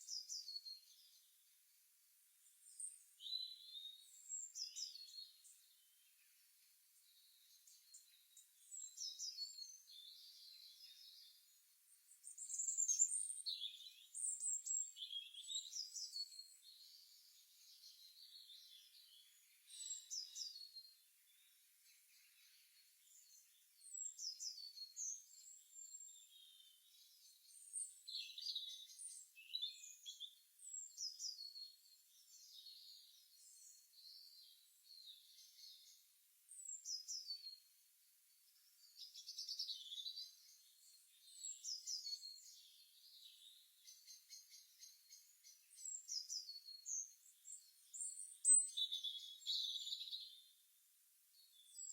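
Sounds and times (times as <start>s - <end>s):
birds chirping and singing: 7.0s - 11.4s, 12.2s - 37.6s, 38.6s - 50.5s.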